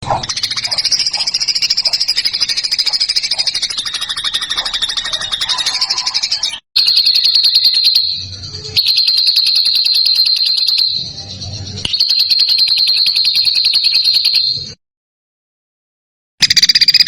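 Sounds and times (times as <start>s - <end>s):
songbird rattling trill: 0.0s - 14.8s, 16.4s - 17.0s.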